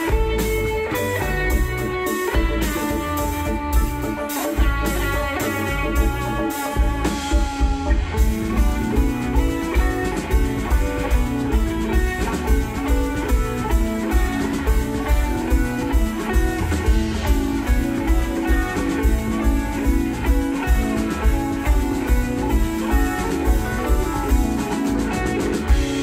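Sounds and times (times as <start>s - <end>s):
electric guitar: 0.0s - 26.0s
jam band playing live: 0.0s - 26.0s.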